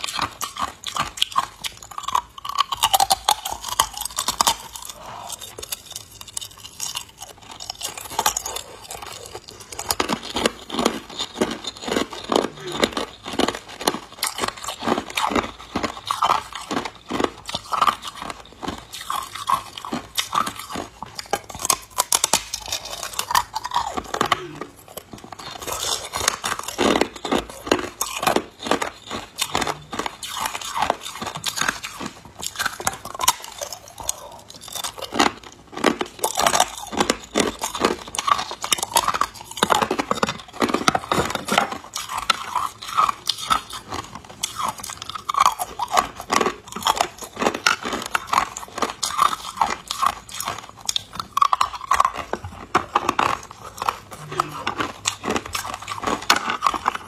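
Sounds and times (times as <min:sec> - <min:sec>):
person chewing ice cubes: 0:00.0 - 0:57.0.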